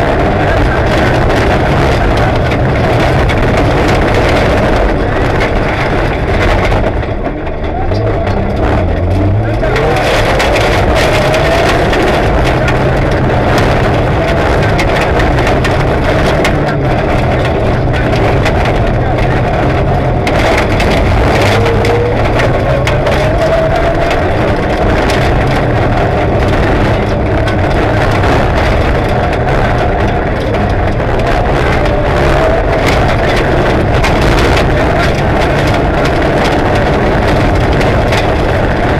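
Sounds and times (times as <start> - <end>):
gravel striking car underbody: 0.0 - 38.9
rally car engine revving: 0.0 - 38.9.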